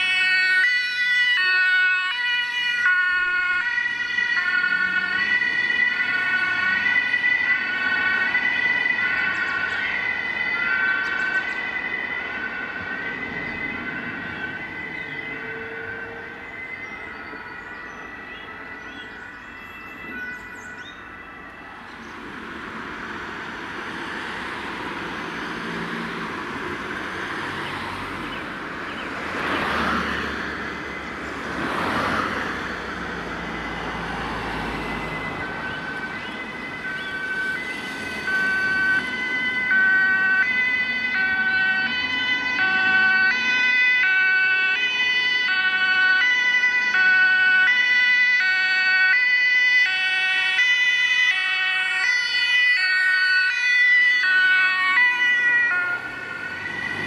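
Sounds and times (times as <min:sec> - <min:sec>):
two-tone emergency siren: 0:00.0 - 0:57.0
vehicles swishing past: 0:00.2 - 0:57.0.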